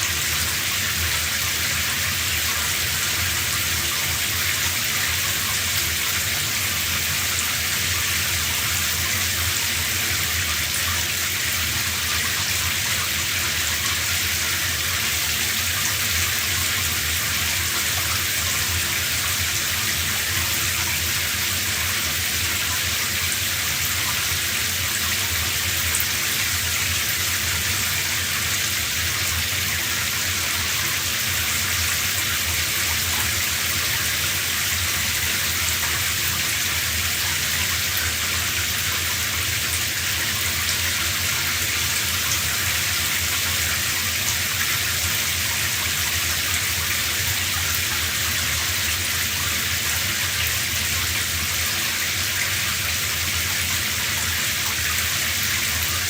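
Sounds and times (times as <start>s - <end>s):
shower running: 0.0s - 56.0s.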